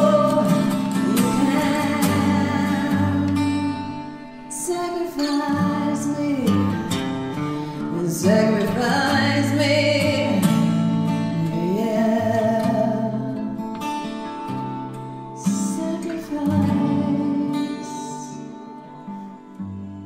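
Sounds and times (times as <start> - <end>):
woman singing a slow ballad: 0.0 - 13.8, 15.4 - 18.7
guitar accompaniment: 0.0 - 20.0.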